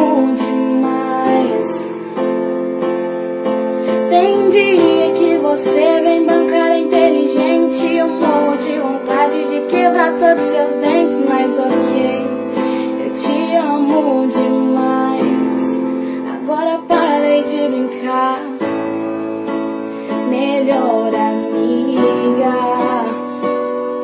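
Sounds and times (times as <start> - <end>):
girl singing: 0.0 - 3.1, 3.8 - 23.5
keyboard accompaniment: 0.0 - 24.0.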